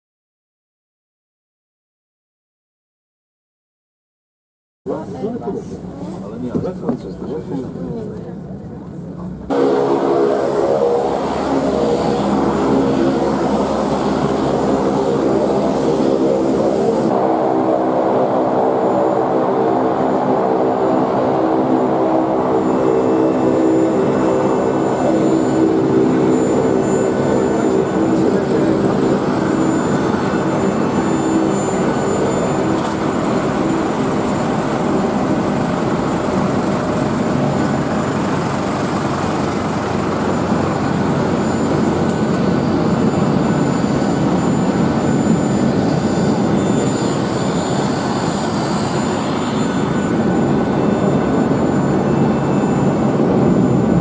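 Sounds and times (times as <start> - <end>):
jet engine rushing with whine: 4.9 - 54.0
turboprop engine droning: 4.9 - 54.0.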